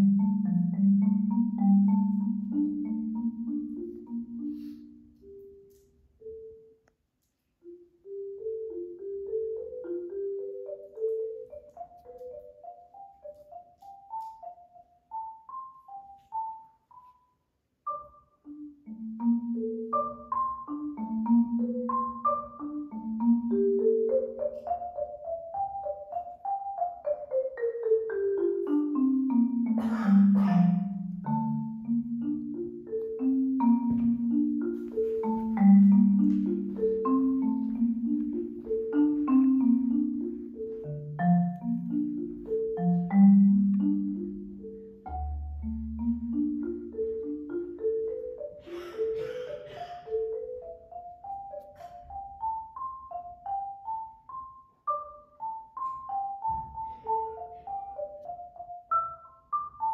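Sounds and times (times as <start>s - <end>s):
solo marimba: 0.0s - 59.9s.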